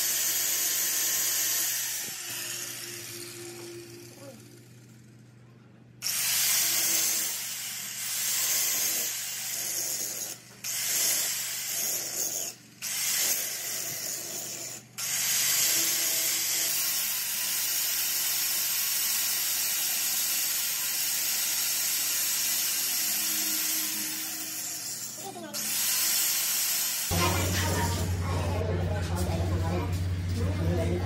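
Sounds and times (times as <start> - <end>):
angle grinder grinding metal: 0.0 - 4.8, 6.0 - 31.0.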